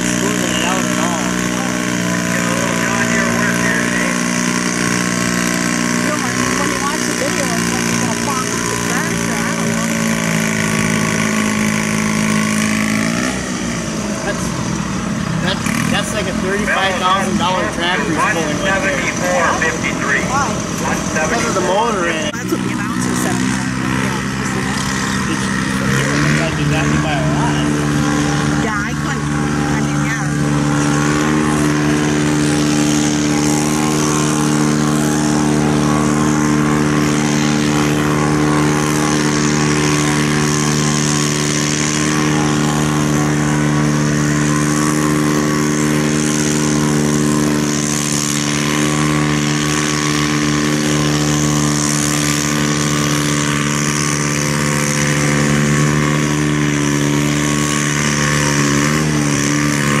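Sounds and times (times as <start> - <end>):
tractor engine under load: 0.0 - 60.0.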